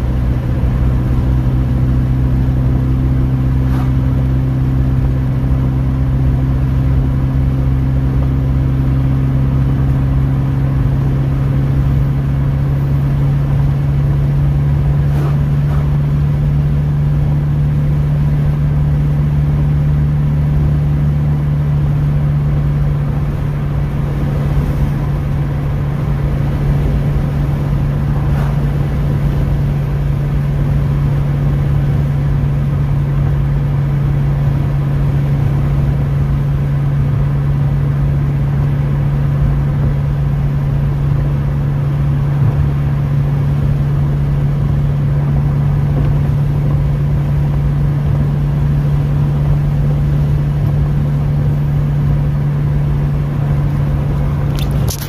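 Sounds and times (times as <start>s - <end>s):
car engine hum: 0.0s - 55.0s
tyre road rush: 0.0s - 55.0s.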